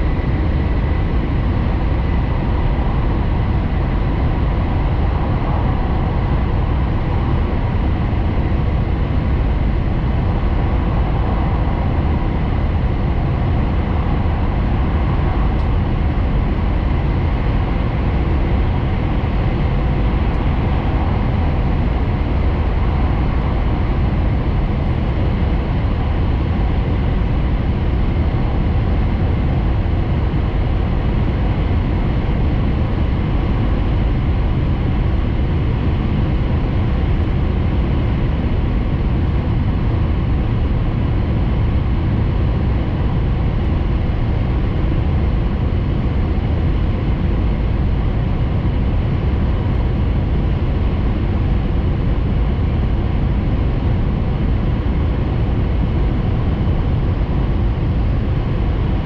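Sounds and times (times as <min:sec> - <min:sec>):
train cabin rumble and rush: 0:00.0 - 0:59.0.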